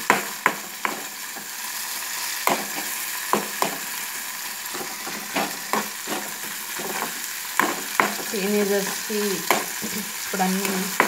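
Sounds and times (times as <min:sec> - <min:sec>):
vegetables sizzling in oil: 0:00.0 - 0:11.0
metal spoon scraping a pan: 0:00.1 - 0:01.5, 0:02.2 - 0:04.0, 0:04.6 - 0:11.0.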